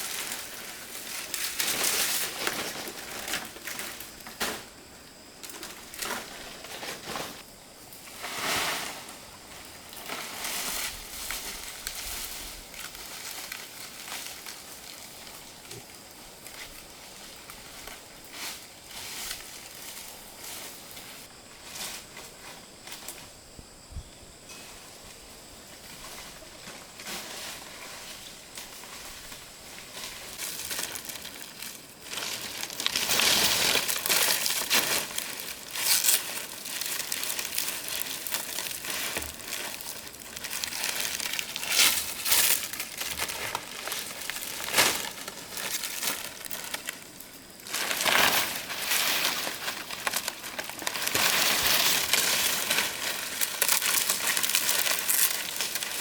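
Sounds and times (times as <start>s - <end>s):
dry leaves rustling: 0.0s - 23.4s, 24.7s - 56.0s.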